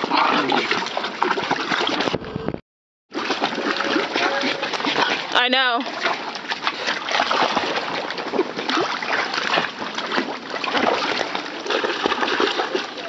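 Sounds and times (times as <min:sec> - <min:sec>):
dog splashing in pool water: 0:00.0 - 0:02.1, 0:03.1 - 0:13.0.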